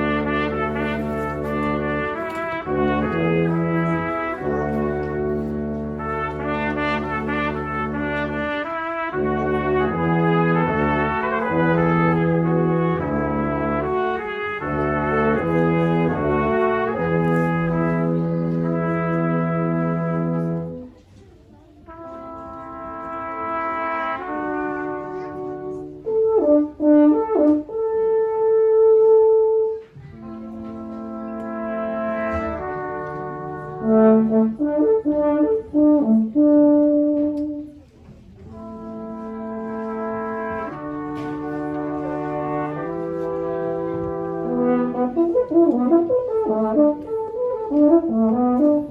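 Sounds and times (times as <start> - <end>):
brass quartet playing: 0.0 - 20.9, 21.8 - 37.8, 38.4 - 48.9.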